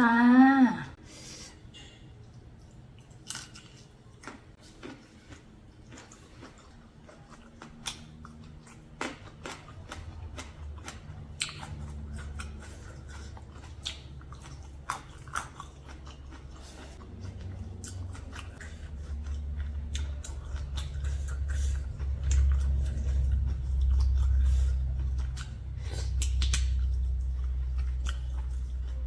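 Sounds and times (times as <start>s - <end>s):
person biting and chewing: 2.7s - 29.0s.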